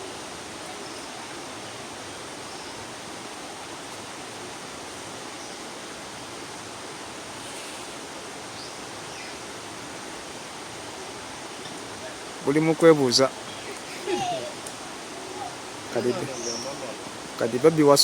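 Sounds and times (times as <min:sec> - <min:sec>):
steady rushing noise: 0:03.1 - 0:18.0.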